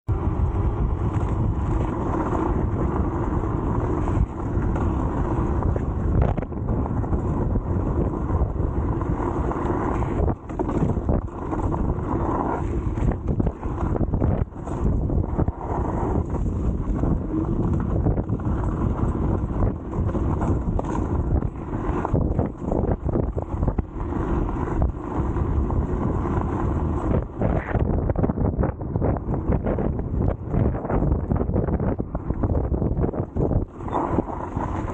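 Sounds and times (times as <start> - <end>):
electric scooter rumbling and rattling: 0.0 - 34.9
wind buffeting microphone: 0.1 - 34.9.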